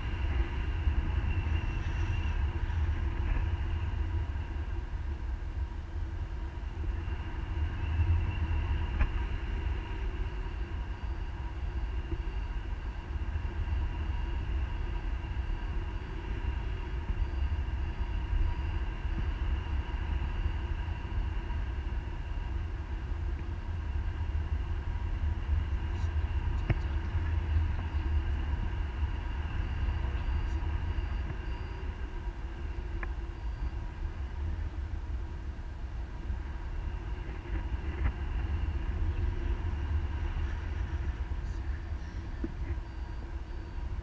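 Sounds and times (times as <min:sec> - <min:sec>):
faint steady tones: 0:00.0 - 0:44.0
wind buffeting microphone: 0:00.0 - 0:44.0.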